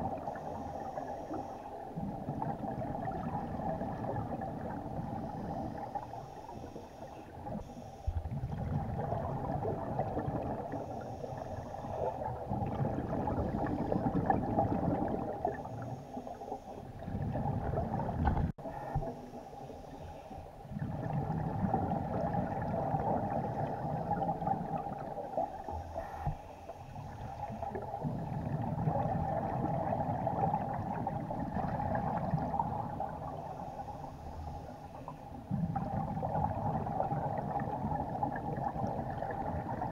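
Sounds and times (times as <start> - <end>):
exhaled air bubbling underwater: 0.0 - 39.9.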